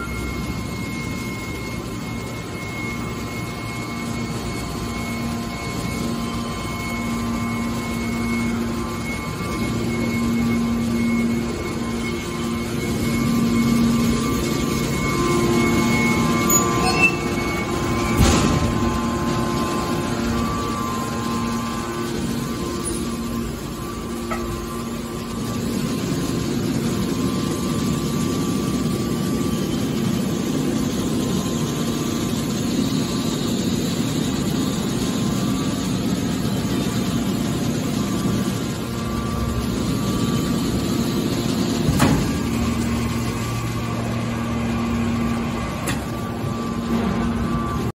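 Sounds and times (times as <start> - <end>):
hydraulic baler humming: 0.0 - 47.9.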